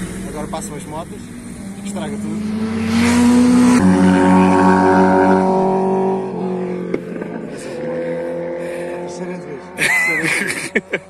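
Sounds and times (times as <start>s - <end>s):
motorcycles passing: 0.0s - 11.0s.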